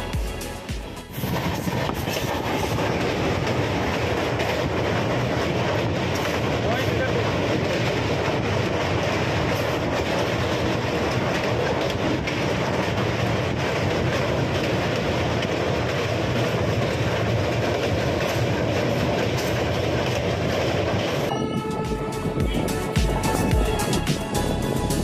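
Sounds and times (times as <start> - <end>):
train rumble: 0.0 - 25.0
wheels clattering on rails: 1.2 - 21.9.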